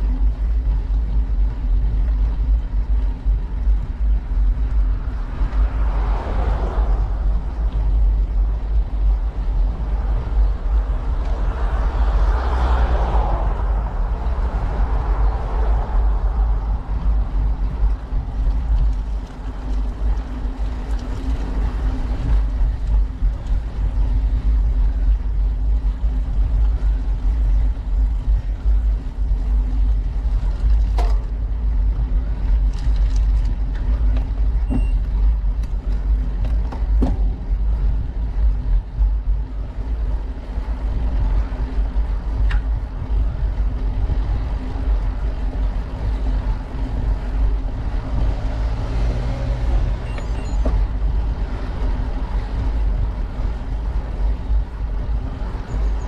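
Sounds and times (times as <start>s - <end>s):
constant hum: 0.0s - 56.0s
wind and road noise rumble: 0.0s - 56.0s.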